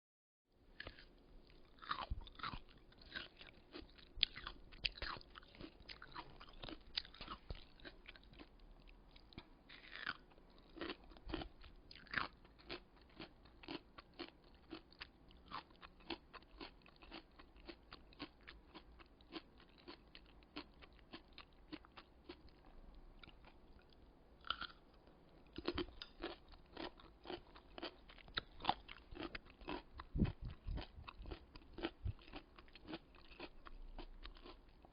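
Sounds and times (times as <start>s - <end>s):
crunchy chewing of radish: 0.8s - 34.9s.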